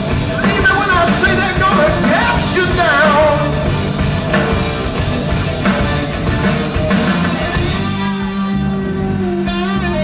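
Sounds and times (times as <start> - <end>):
rock band playing: 0.0 - 10.0.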